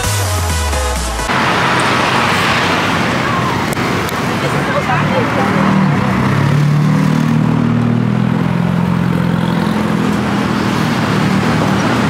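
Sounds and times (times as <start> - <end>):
street traffic: 0.0 - 12.0
vehicle engine droning: 1.2 - 12.0.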